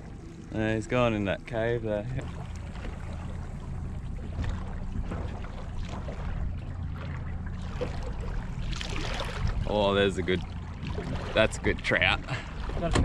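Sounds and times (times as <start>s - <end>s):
boat motor running: 0.0s - 13.0s
water wash: 0.0s - 13.0s.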